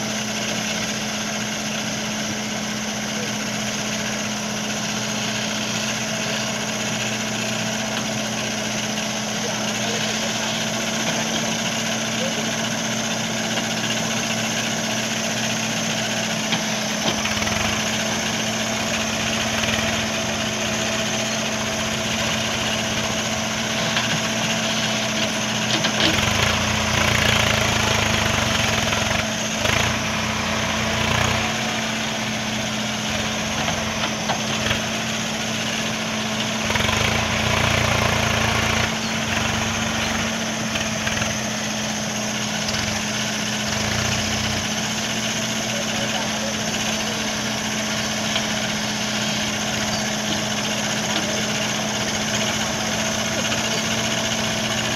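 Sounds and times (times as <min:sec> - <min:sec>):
diesel engine rumbling: 0:00.0 - 0:54.9.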